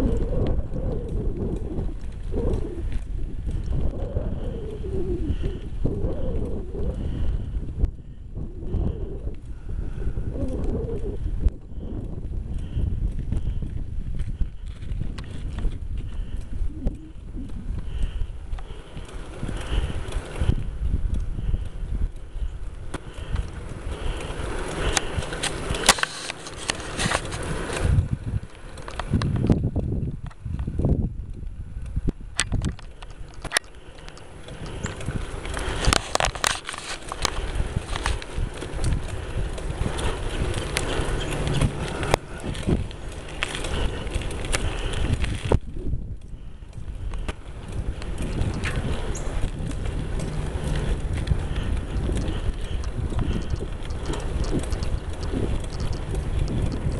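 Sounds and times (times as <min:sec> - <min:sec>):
bicycle clicks and rattles: 0:00.0 - 0:56.9
wind buffeting microphone: 0:00.0 - 0:56.9.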